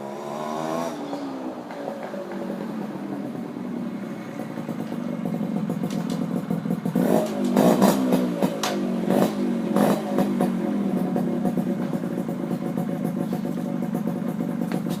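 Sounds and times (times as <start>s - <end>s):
motorcycle engine idling: 1.1s - 15.0s.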